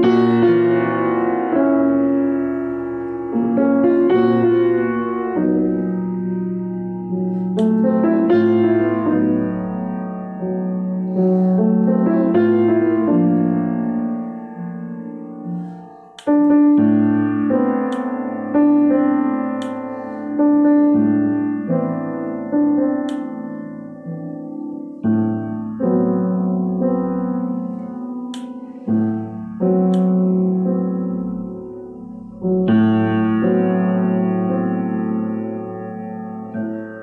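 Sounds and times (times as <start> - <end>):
grand piano chords: 0.0 - 37.0.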